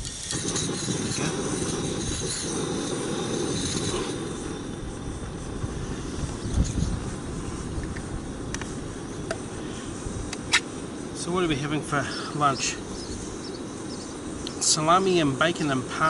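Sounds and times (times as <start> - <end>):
gas stove burner hissing: 0.0 - 16.0.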